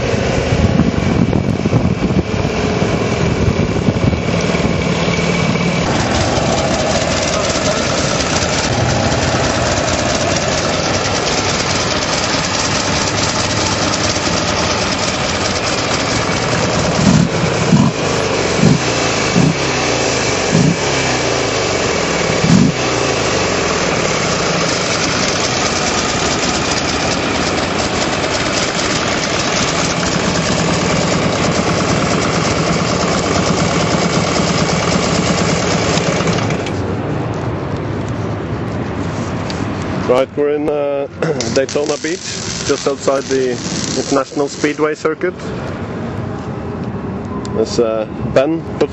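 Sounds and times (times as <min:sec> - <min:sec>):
loud engine bursts: 0:00.0 - 0:37.0, 0:41.1 - 0:46.0
motorcycle engine running: 0:00.0 - 0:37.4, 0:41.2 - 0:45.8
wind and road noise: 0:00.0 - 0:48.9.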